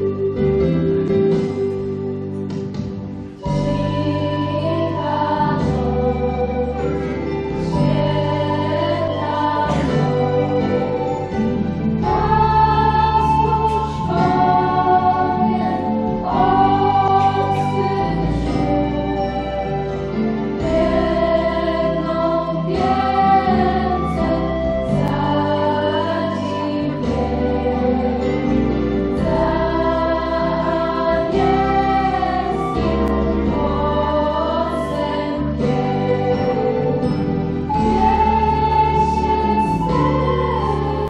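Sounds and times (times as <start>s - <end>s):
sustained accompanying chords: 0.0s - 41.0s
choir singing slow piece: 1.0s - 41.0s.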